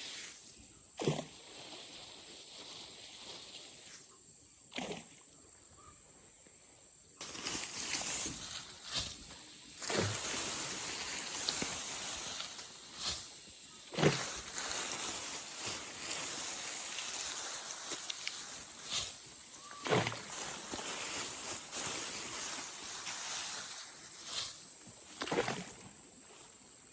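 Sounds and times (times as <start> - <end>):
grass rustling: 1.2 - 4.0, 7.2 - 26.9.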